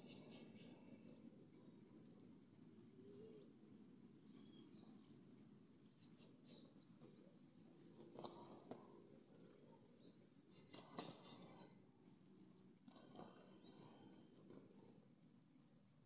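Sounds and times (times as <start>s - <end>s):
high insect chirp: 0.0s - 16.0s
outdoor ambience: 0.0s - 16.0s.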